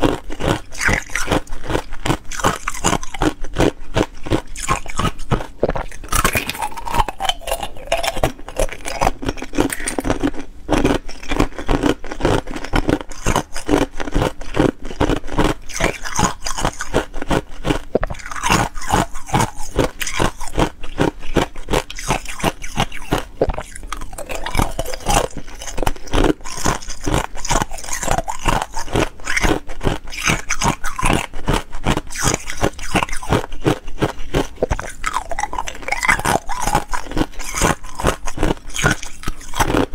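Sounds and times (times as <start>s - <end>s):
ice cubes crunching in teeth: 0.0s - 39.9s.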